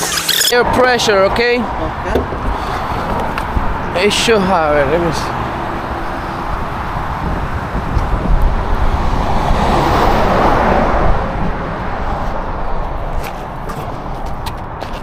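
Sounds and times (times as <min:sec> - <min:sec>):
traffic noise: 0:00.0 - 0:15.0
car passing: 0:00.5 - 0:14.4.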